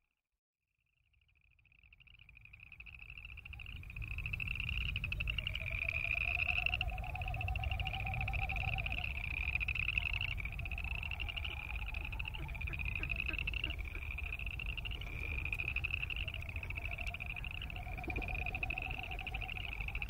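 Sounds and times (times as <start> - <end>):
frogs trilling: 1.1 - 20.0.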